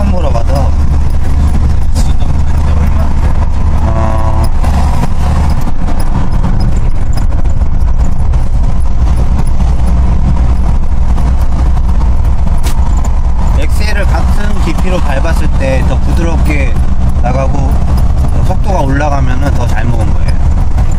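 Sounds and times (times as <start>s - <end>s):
engine and road drone inside car: 0.0s - 20.9s.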